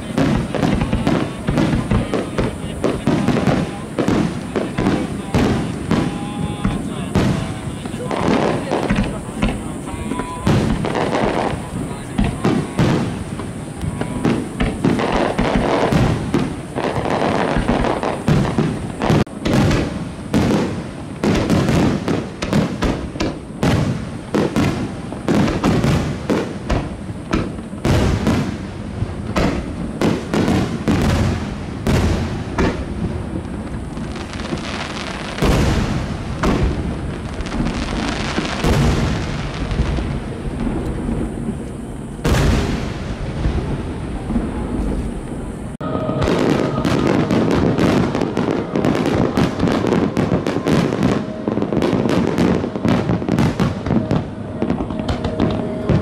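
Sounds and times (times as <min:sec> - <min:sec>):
fireworks bangs and crackling: 0:00.0 - 0:56.0
heavy low firework boom: 0:00.0 - 0:56.0.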